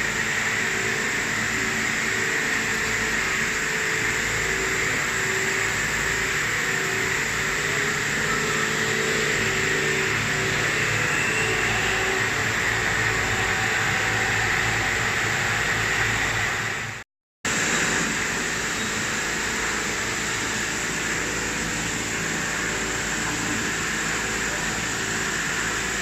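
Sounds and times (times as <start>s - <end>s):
machine running with hiss and hum: 0.0s - 26.0s.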